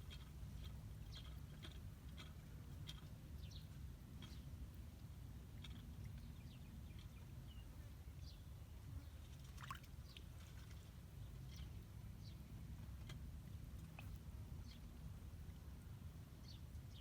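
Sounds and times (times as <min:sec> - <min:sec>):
low rumble of water: 0:00.0 - 0:17.0.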